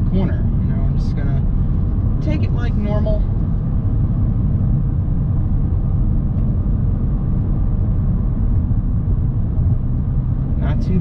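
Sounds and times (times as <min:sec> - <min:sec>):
car interior road noise: 0:00.0 - 0:11.0.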